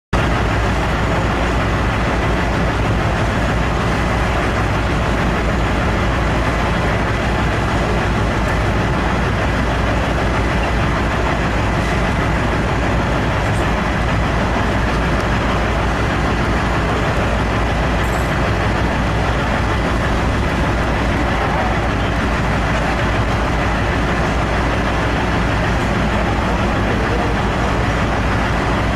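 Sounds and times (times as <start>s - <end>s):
truck diesel engine rumbling: 0.2s - 28.9s.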